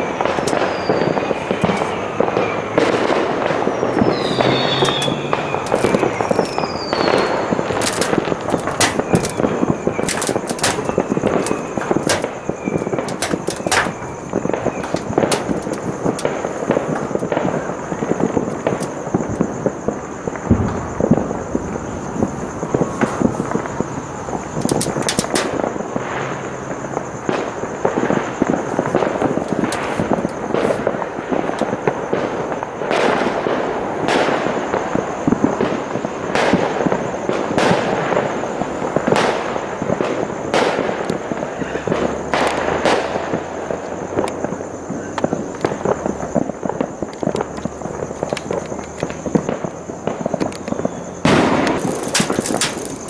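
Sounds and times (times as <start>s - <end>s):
firecrackers crackling: 0.0s - 53.0s
fireworks bangs: 0.0s - 53.0s.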